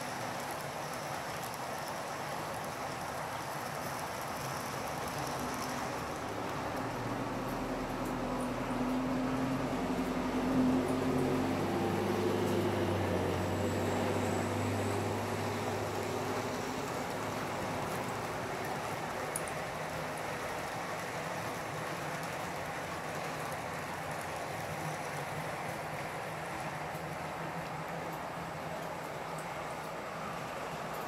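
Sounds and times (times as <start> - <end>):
model train rolling on track: 0.0 - 31.0.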